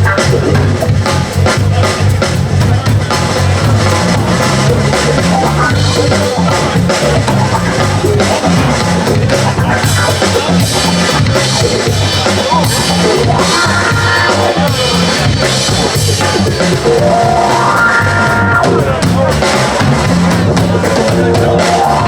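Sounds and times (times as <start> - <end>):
drum kit beat: 0.0 - 22.0
live band playing instrumental: 0.0 - 22.0.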